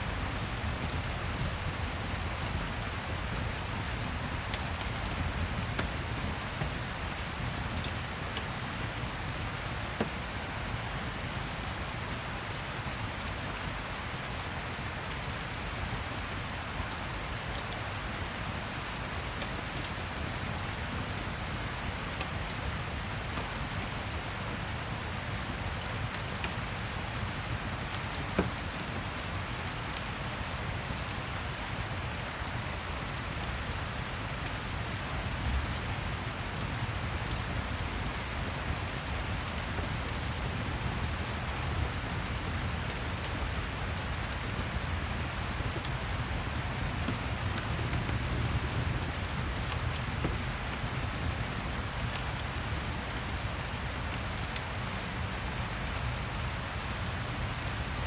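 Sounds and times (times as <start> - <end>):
steady rain falling: 0.0 - 58.0
wood fire crackling: 0.1 - 58.0.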